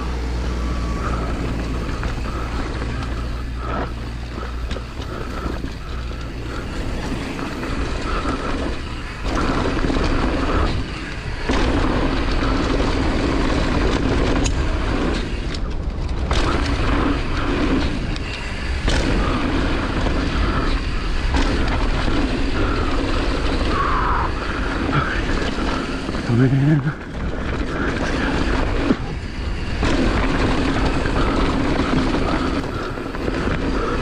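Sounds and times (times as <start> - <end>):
bike rattle: 0.0 - 34.0
wind rushing over camera: 0.0 - 34.0.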